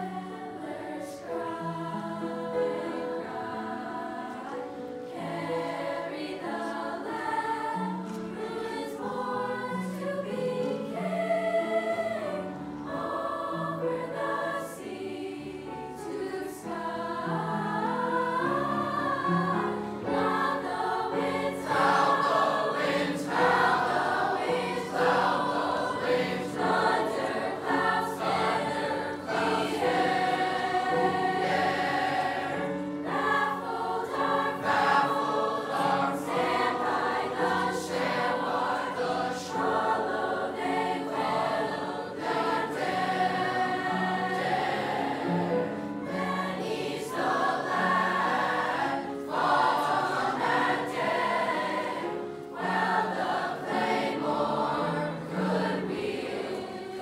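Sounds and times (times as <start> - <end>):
youth choir singing: 0.0 - 57.0.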